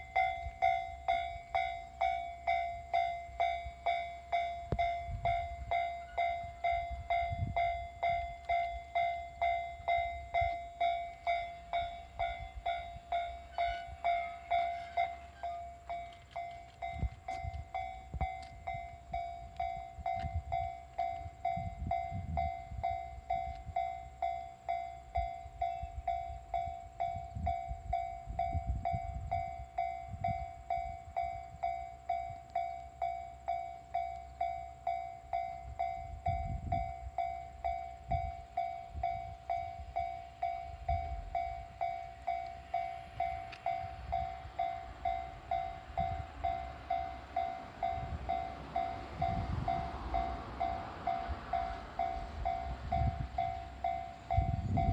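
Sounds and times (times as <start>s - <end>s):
low gusty rumbling: 0.0s - 24.2s, 25.0s - 32.5s, 35.2s - 54.9s
level crossing bell ringing: 0.0s - 28.3s, 29.0s - 54.9s
approaching train rush: 0.0s - 54.9s.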